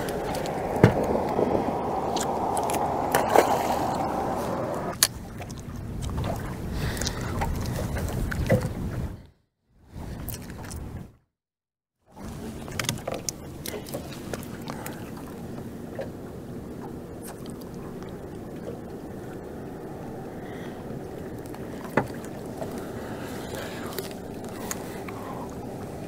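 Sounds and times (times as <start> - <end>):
water noise: 0.0 - 9.2, 12.1 - 26.0
wind: 0.0 - 11.3, 12.0 - 26.0.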